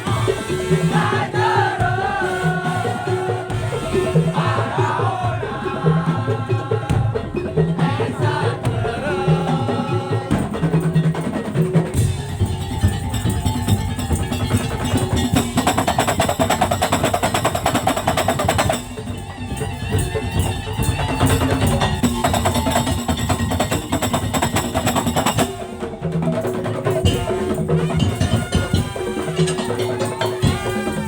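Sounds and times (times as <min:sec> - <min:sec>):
percussion ensemble playing: 0:00.0 - 0:31.0.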